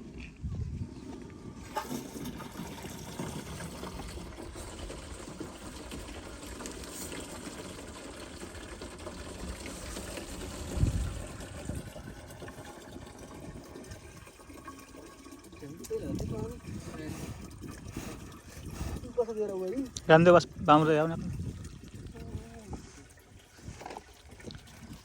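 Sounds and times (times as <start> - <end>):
water pouring and trickling: 0.4 - 25.0.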